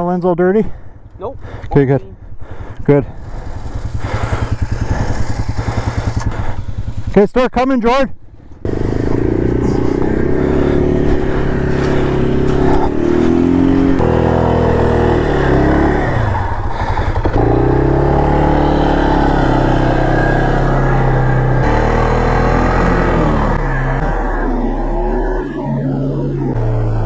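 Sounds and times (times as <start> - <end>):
atv engine revving: 1.0 - 27.0.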